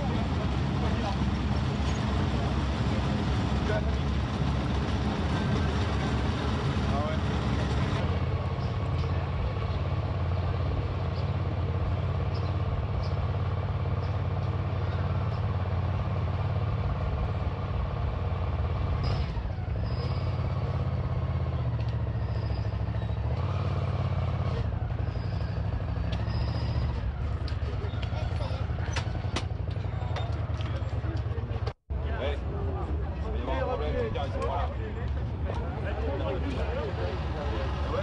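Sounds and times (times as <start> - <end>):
motorcycle engines rumbling: 0.0 - 38.0.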